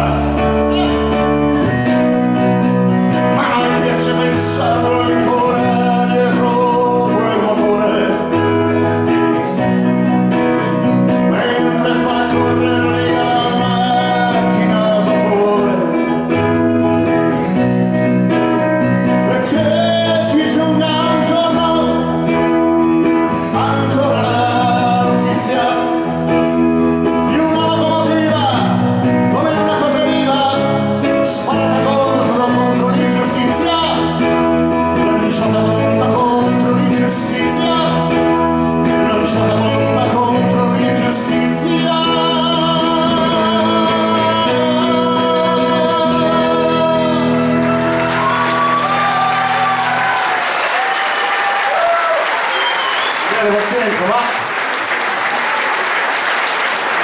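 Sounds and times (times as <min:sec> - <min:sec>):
man singing into a microphone: 0:00.0 - 0:17.6, 0:18.2 - 0:50.0
steady bass line: 0:00.0 - 0:50.2
electric guitar: 0:00.0 - 0:57.0.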